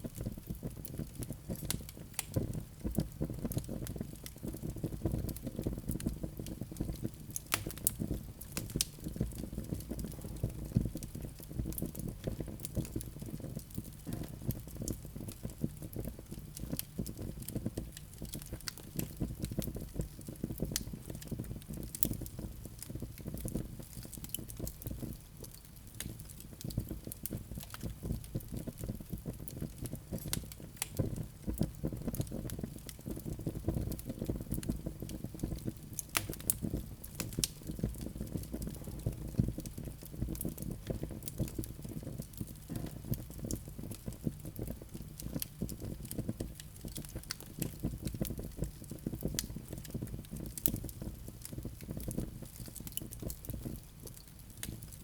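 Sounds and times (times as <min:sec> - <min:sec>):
low fire rumble: 0:00.0 - 0:55.0
wood fire crackling: 0:00.0 - 0:55.0.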